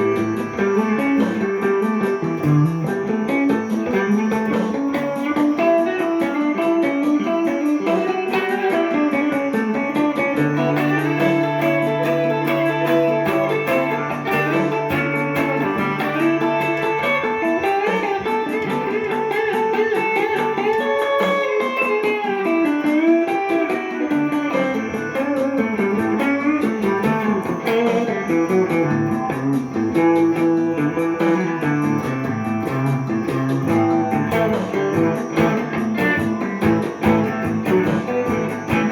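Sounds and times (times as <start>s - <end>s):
electric guitar jazzy melody: 0.0s - 38.9s.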